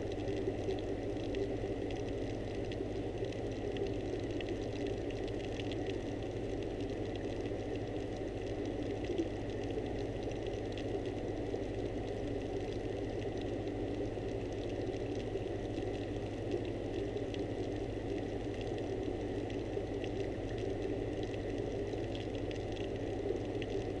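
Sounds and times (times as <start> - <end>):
aquarium pump hum and hiss: 0.0 - 24.0.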